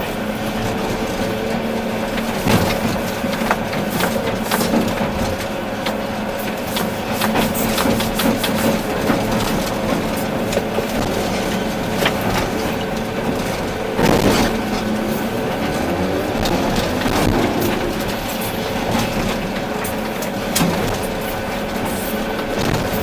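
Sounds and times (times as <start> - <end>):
excavator diesel engine running: 0.0 - 23.0
rock and soil crunching: 0.1 - 23.0.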